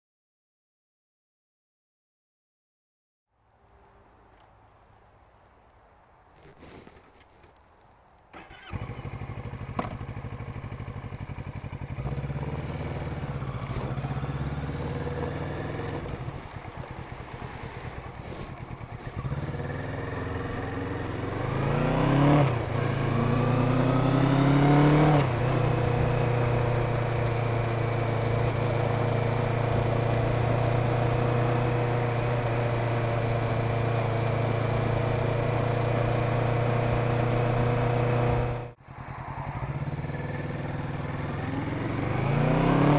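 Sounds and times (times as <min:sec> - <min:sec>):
motorcycle engine accelerating: 0:08.3 - 0:42.9.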